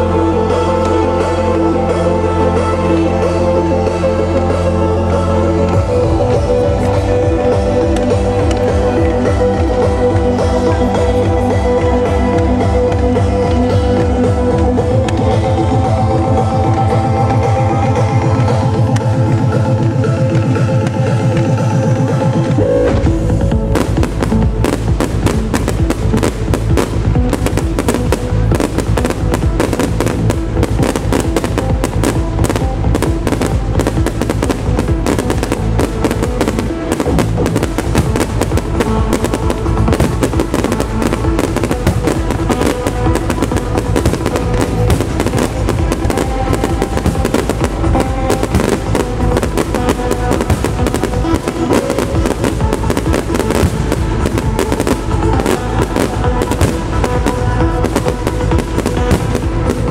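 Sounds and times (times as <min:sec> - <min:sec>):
trance music over loudspeakers: 0:00.0 - 0:59.9
firework bangs and crackling: 0:03.3 - 0:17.6, 0:22.8 - 0:59.9.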